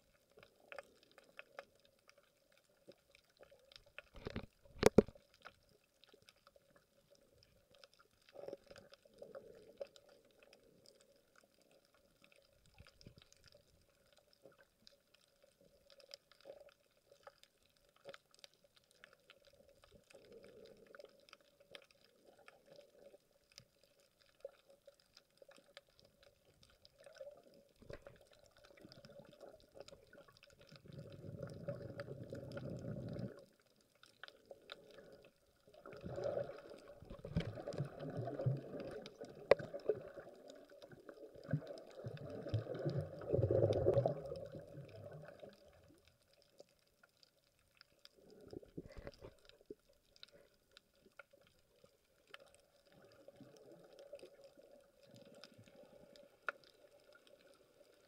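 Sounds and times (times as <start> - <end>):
faint clicks underwater: 0.0 - 58.0
muffled water sloshing underwater: 0.0 - 58.0.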